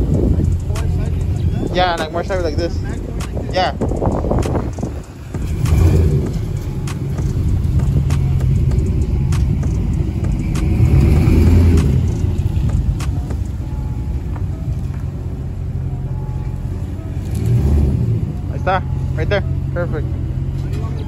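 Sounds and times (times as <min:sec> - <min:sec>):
pickup truck engine low rumble: 0:00.0 - 0:21.0.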